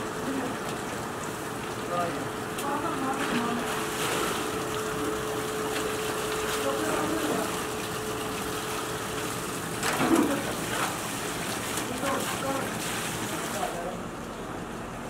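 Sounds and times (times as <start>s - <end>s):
water sloshing and splashing: 0.0s - 14.5s.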